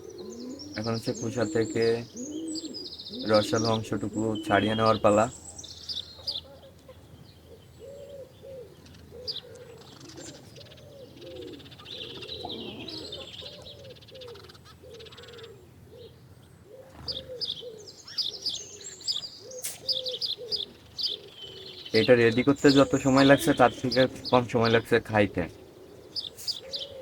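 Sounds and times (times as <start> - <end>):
doves cooing: 0.0 - 27.0
small birds chirping: 0.0 - 27.0.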